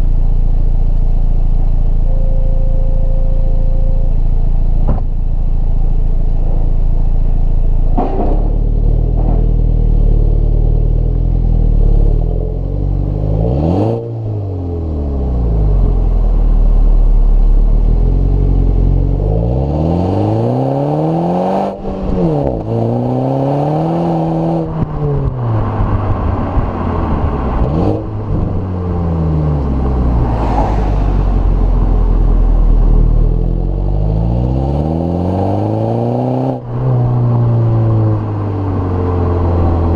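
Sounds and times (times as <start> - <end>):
car engine revving: 3.1 - 39.9.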